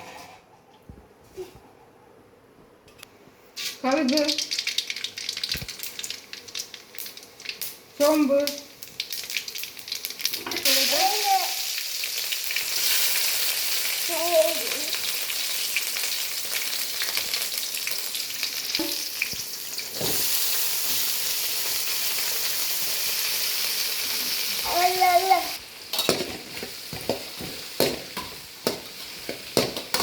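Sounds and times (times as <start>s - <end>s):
spices sizzling in hot oil: 3.6s - 30.0s.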